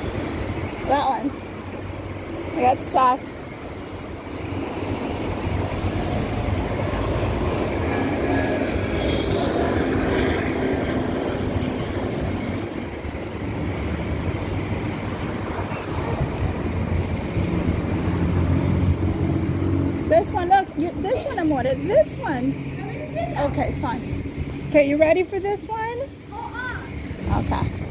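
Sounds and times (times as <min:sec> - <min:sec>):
street traffic noise: 0:00.0 - 0:27.9.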